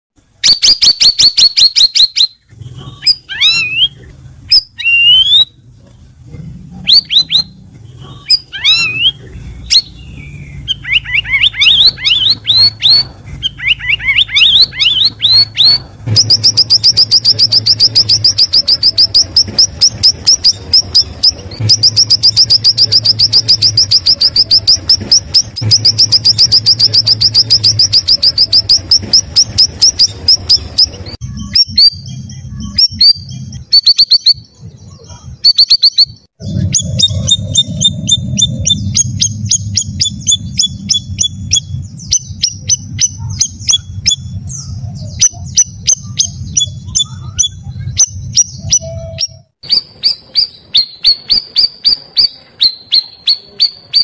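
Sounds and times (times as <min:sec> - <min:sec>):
bulbul singing: 0:00.3 - 0:05.7, 0:06.7 - 0:54.0.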